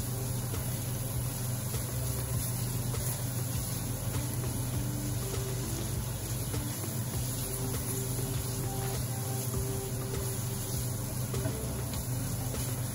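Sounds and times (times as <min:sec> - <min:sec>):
onions sizzling in a pan: 0:00.0 - 0:12.9
spatula stirring: 0:00.0 - 0:12.9
steady low hum: 0:00.0 - 0:12.9.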